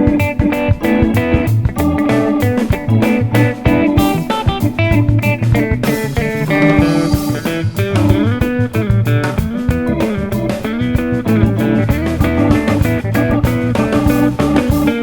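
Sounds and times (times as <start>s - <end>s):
guitar instrumental with drums: 0.0s - 15.0s.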